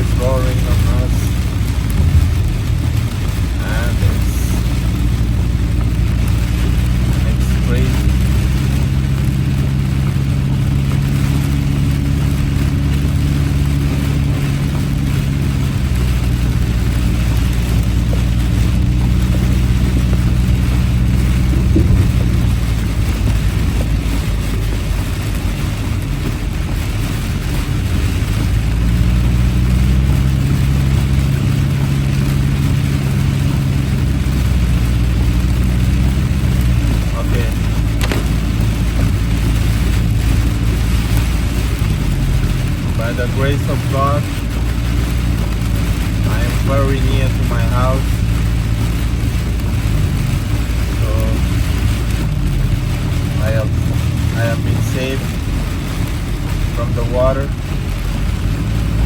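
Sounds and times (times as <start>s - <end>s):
car engine hum: 0.0s - 59.0s
rain hissing: 0.0s - 59.0s
tyres on wet road: 0.0s - 59.0s.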